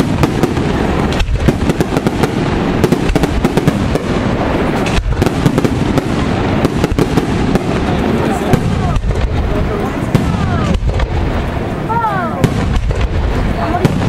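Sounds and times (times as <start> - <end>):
fireworks bangs and crackle: 0.0 - 14.0.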